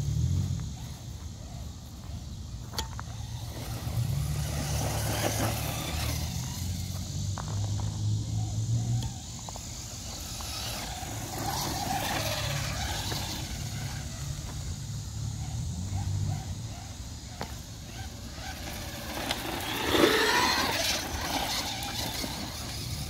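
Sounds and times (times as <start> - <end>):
rc truck motor whine: 0.0 - 23.0.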